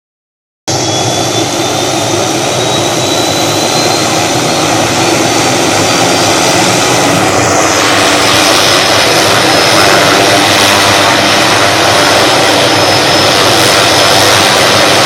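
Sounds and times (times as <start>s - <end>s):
helicopter engine rush: 0.7s - 15.0s
thin high whine: 0.7s - 15.0s.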